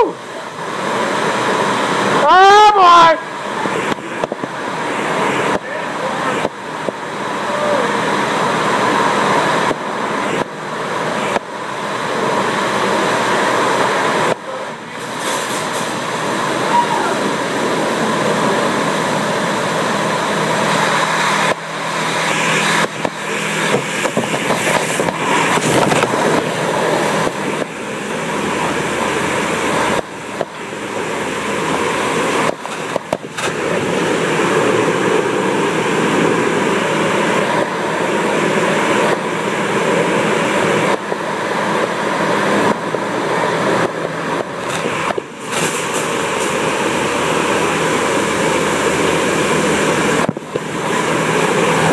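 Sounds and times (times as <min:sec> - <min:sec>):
car wash jets rushing: 0:00.0 - 0:51.9.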